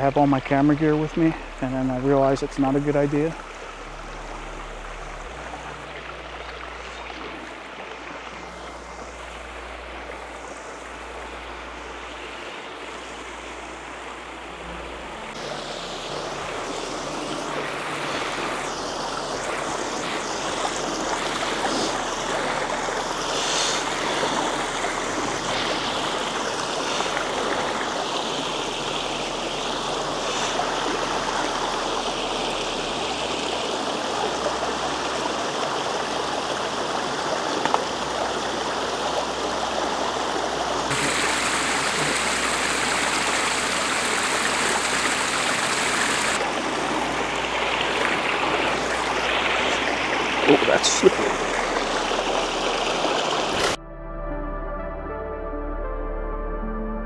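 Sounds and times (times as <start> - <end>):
creek water rushing: 0.0 - 53.8.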